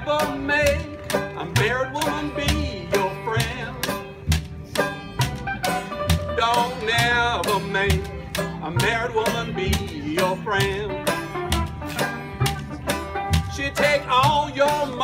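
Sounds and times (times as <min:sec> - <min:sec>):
banjo picking: 0:00.0 - 0:15.0
string band playing: 0:00.0 - 0:15.0
washtub bass line: 0:00.0 - 0:15.0.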